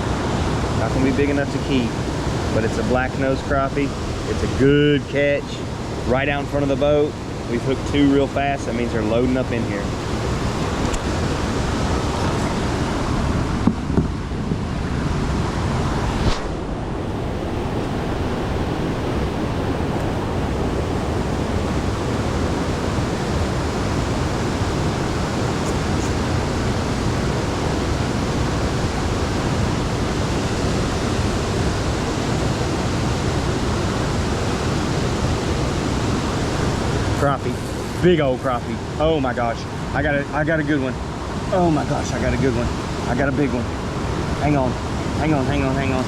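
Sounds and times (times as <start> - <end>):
water rushing below a dam: 0.0 - 46.0.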